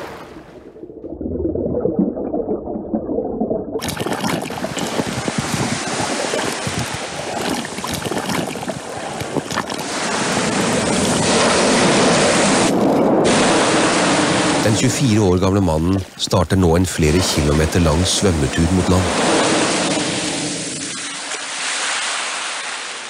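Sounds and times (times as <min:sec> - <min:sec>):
sea water splashing: 0:00.0 - 0:23.0.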